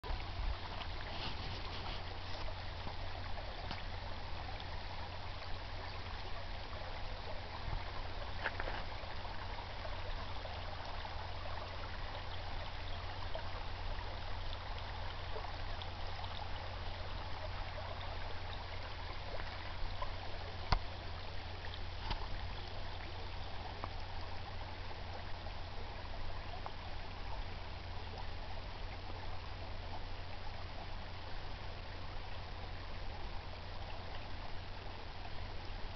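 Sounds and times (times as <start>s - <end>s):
brook babbling: 0.0s - 35.9s.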